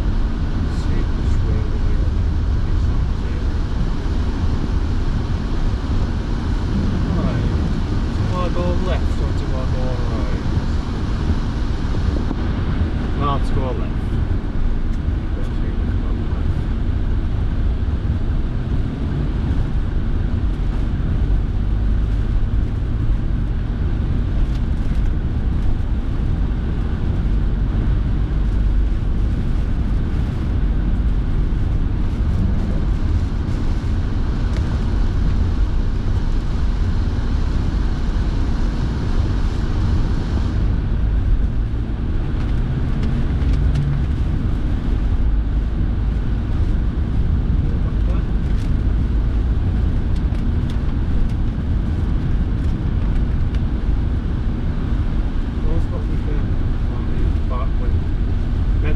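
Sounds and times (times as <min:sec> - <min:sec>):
car heater fan blowing: 0:00.0 - 0:58.9
car road and engine rumble: 0:00.0 - 0:58.9.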